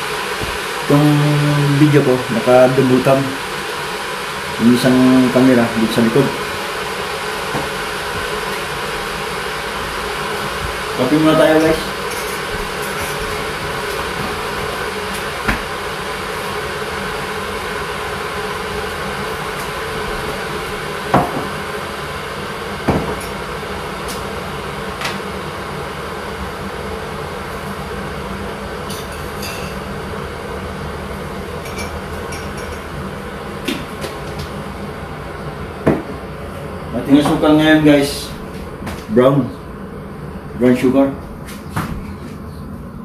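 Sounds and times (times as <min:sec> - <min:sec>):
steady whirring hum: 0:00.0 - 0:43.0.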